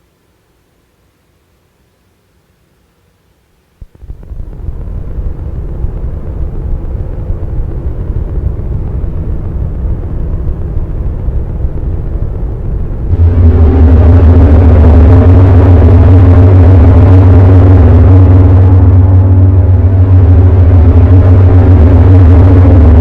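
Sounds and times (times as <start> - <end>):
low noisy synthesizer drone: 3.8 - 23.0.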